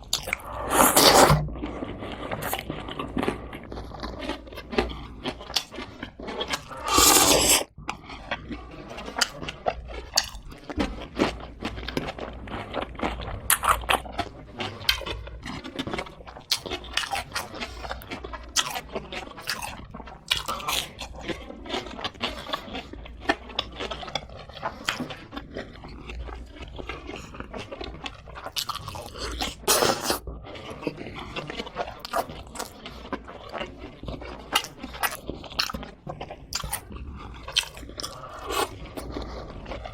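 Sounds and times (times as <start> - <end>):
crunching fried chicken: 0.0 - 39.9.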